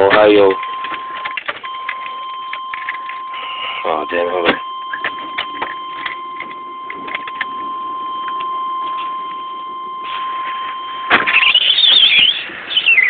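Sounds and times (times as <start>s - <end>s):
high electronic beep tone: 0.0s - 13.0s
warbling alarm sound: 0.0s - 13.0s.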